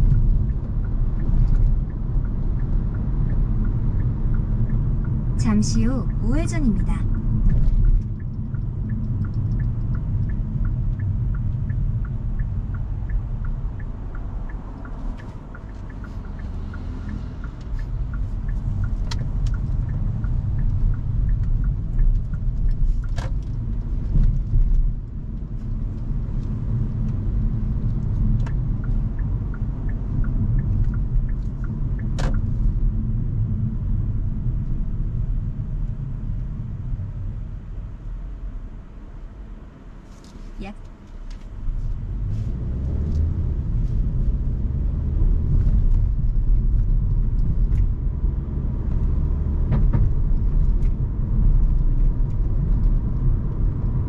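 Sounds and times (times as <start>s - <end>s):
turn signal ticking: 0.0s - 36.4s, 40.6s - 54.0s
road rumble inside car: 0.0s - 54.0s.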